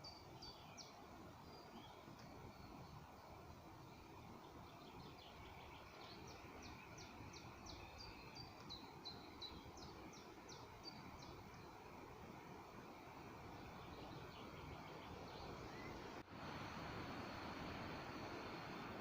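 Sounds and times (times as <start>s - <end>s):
songbird singing: 0.0s - 16.2s.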